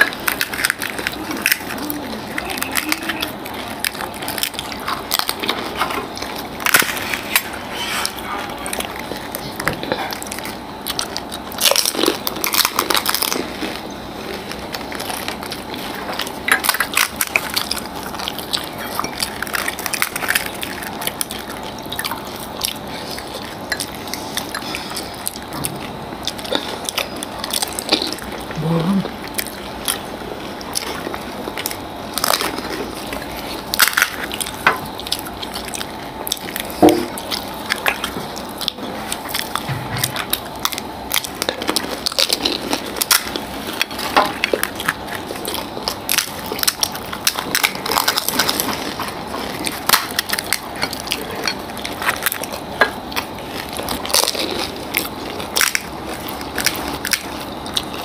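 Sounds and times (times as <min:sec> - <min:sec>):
crisp shells crunching: 0:00.0 - 0:58.0.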